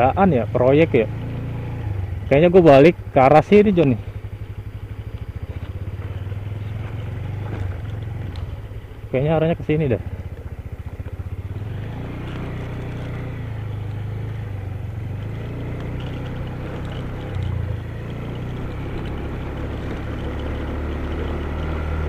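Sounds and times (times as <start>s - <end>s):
scooter engine pulling away: 0.0s - 22.0s.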